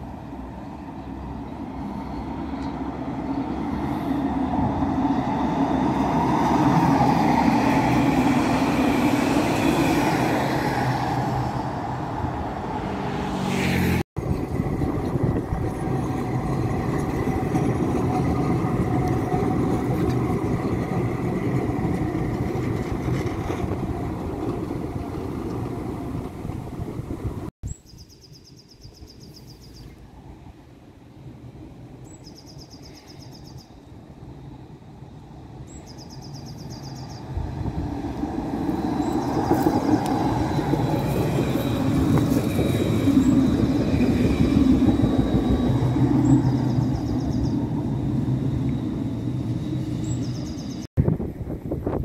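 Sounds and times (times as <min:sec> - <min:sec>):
tram rumbling past: 0:00.0 - 0:27.5, 0:30.1 - 0:52.0
street background: 0:00.0 - 0:52.0.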